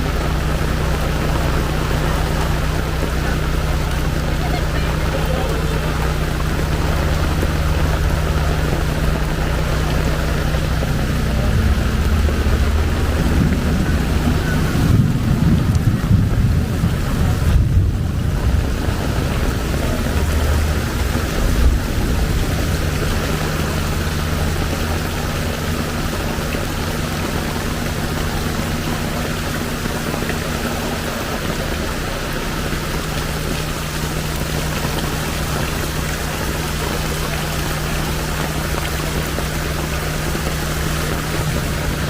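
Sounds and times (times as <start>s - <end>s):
heavy rain and floodwater: 0.0s - 42.0s
vehicle engine humming: 0.0s - 42.0s.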